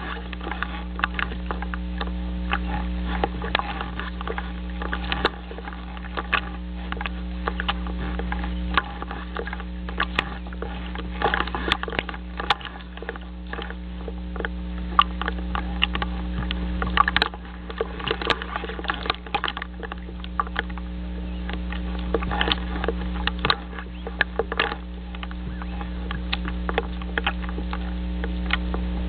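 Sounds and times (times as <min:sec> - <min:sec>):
crackling clicks: 0:00.0 - 0:29.0
electrical hum: 0:00.0 - 0:29.0.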